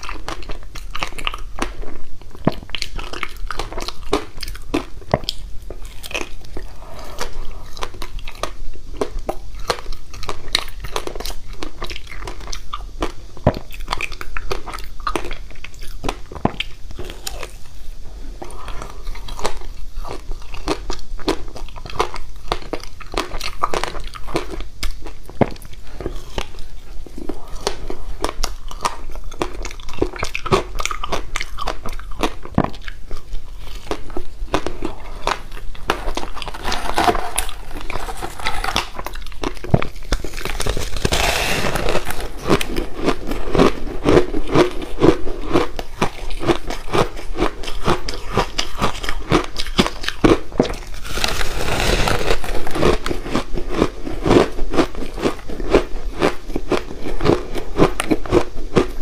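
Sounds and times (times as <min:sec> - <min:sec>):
ice crunching being chewed: 0:00.0 - 0:17.7, 0:18.4 - 0:59.0.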